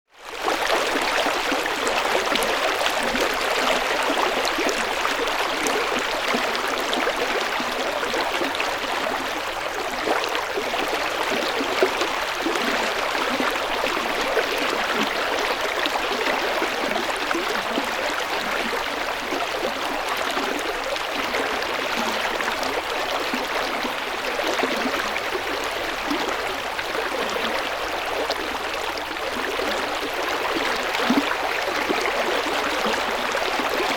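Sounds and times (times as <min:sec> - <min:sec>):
river water flowing: 0:00.2 - 0:33.9.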